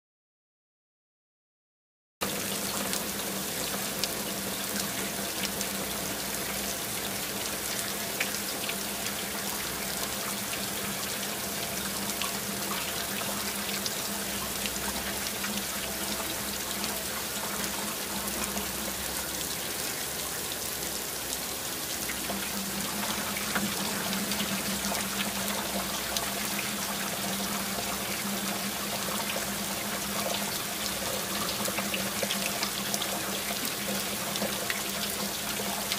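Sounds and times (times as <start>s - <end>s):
heavy rain: 2.2s - 35.9s.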